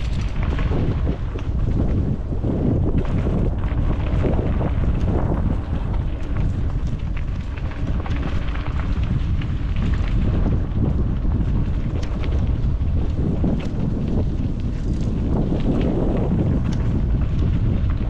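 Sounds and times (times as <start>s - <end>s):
bike tyres clicking on rough ground: 0.0s - 18.0s
wind buffeting microphone: 0.0s - 18.0s.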